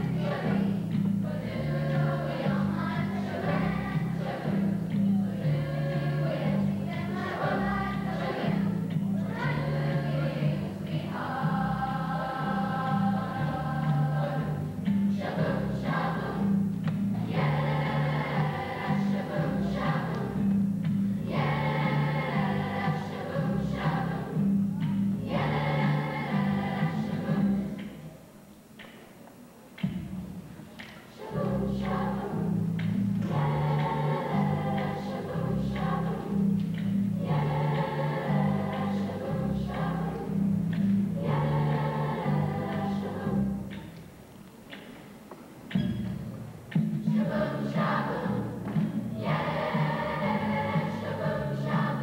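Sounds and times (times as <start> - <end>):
youth choir singing: 0.0 - 28.1, 31.0 - 44.0, 47.0 - 52.0.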